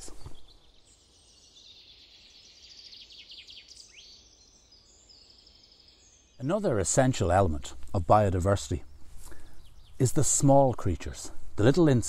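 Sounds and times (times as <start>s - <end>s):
small birds twittering: 0.0s - 12.0s
woodland background hiss: 0.0s - 12.0s.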